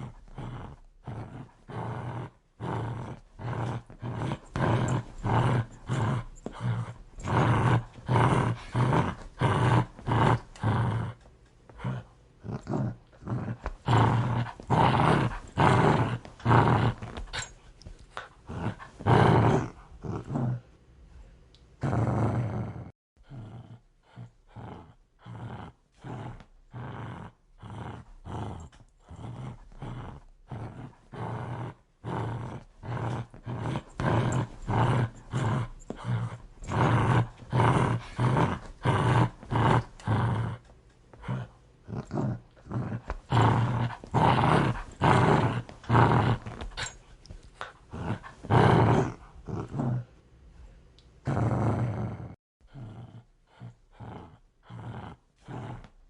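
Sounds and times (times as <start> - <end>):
dog growling aggressively: 0.0 - 20.7, 21.8 - 50.1, 51.2 - 56.0.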